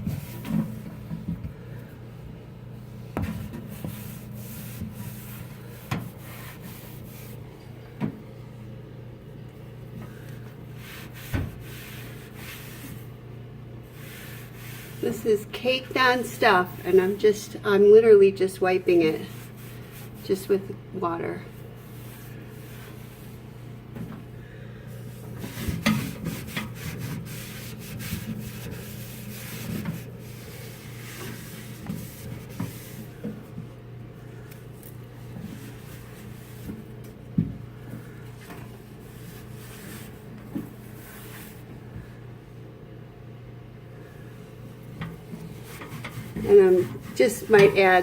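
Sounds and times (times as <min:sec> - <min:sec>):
cloth scrubbing inside microwave: 0:00.0 - 0:08.7, 0:09.6 - 0:20.7, 0:21.3 - 0:42.6, 0:44.0 - 0:48.0
steady low hum: 0:00.0 - 0:48.0.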